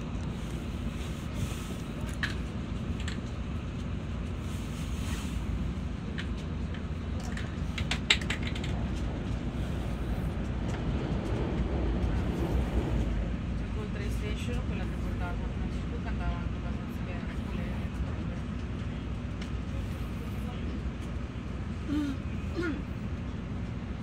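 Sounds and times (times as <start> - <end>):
train cabin rumble: 0.0 - 24.0.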